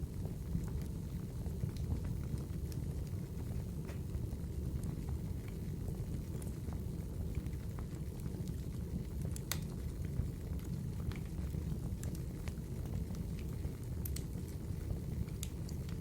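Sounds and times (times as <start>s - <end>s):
fire flames rumbling: 0.0s - 16.0s
wood fire crackles and pops: 0.0s - 16.0s.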